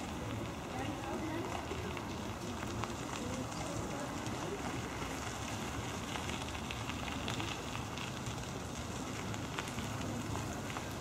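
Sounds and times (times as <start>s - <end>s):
fine crackle: 0.0s - 11.0s
outdoor background hiss: 0.0s - 11.0s.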